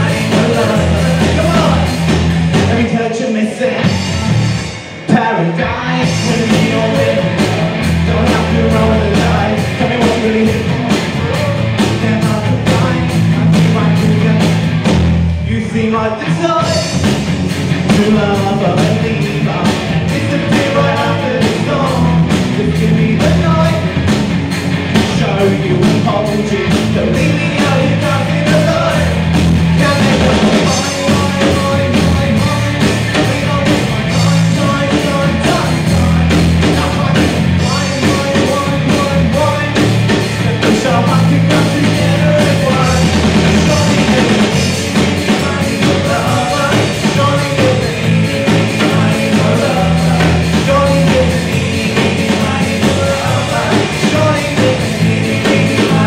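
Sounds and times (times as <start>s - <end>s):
live rock band playing: 0.0s - 56.0s
steady drum beat: 0.0s - 56.0s.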